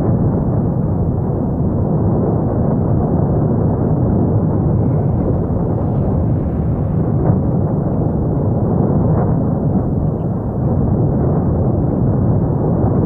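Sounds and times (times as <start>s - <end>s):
volcano deep rumble: 0.0s - 13.0s.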